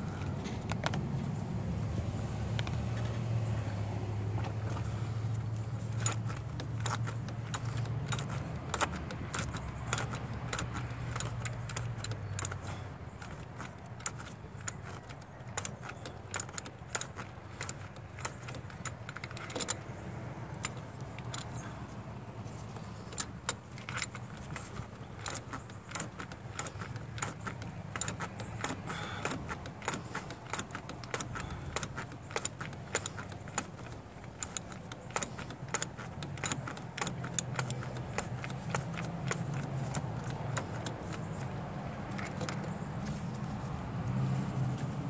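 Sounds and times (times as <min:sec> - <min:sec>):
socket ratchet clicking: 0:05.4 - 0:21.9, 0:22.7 - 0:42.9.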